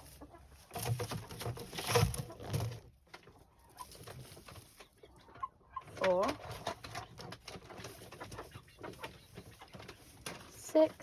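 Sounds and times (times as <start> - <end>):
hens clucking: 0.0 - 11.0
rustling and light knocks: 0.0 - 11.0.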